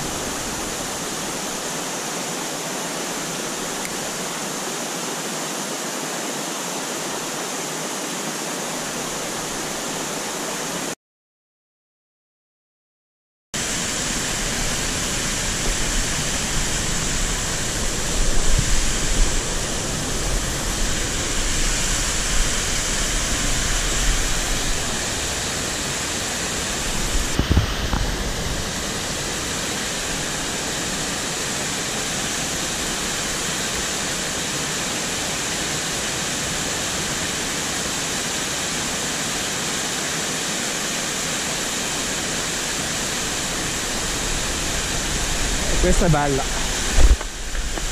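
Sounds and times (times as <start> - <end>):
rush of water: 0.0 - 11.0, 13.6 - 47.9.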